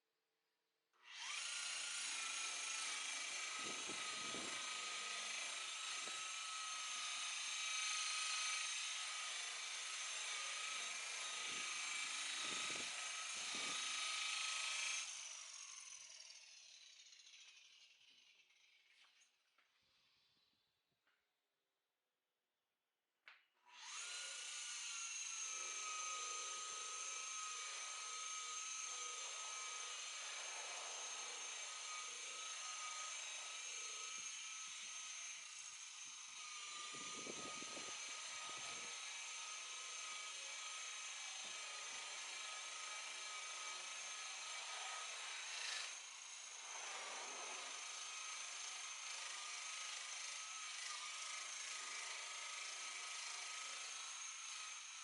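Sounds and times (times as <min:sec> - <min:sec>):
power tool high motor whine: 0:01.0 - 0:20.7, 0:23.6 - 0:55.0.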